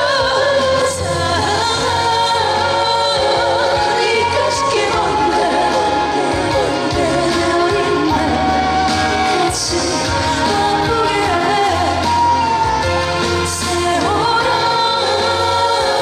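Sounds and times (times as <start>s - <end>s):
amplified backing music: 0.0s - 16.0s
woman singing: 0.0s - 16.0s.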